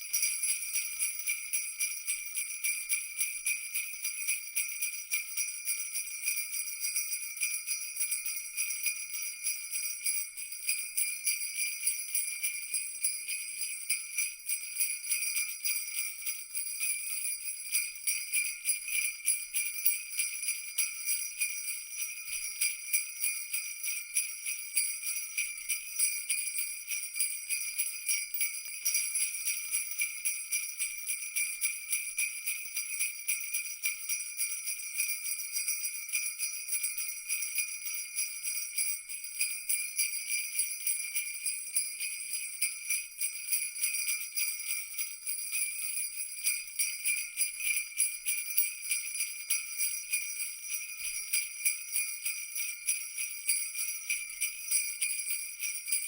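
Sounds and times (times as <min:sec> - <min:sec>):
sleigh bells shaking: 0:00.0 - 0:56.0.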